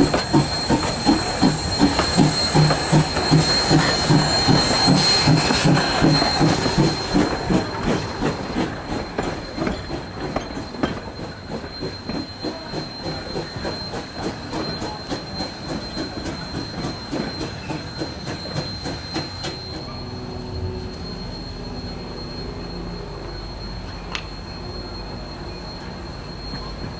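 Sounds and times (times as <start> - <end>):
high-pitched wheel squeal: 0.0 - 26.9
steam train moving along track: 0.0 - 26.9.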